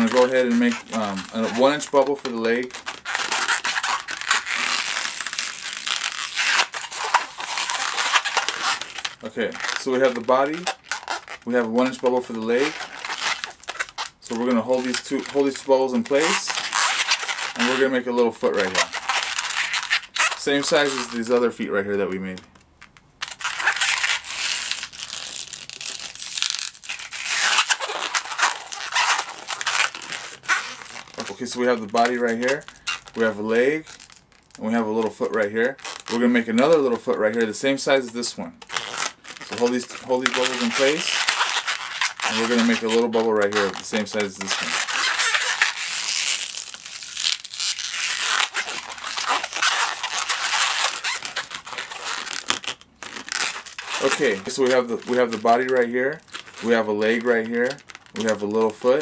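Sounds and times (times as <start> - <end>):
rubber balloon squeaking: 0.0 - 21.4, 22.4 - 59.0.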